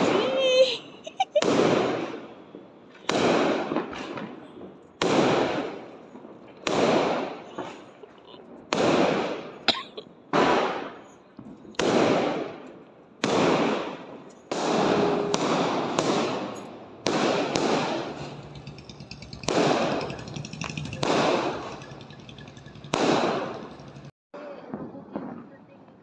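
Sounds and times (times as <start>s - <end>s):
fireworks crackles and pops: 0.0s - 9.7s, 10.3s - 26.0s
fireworks bangs: 0.0s - 26.0s.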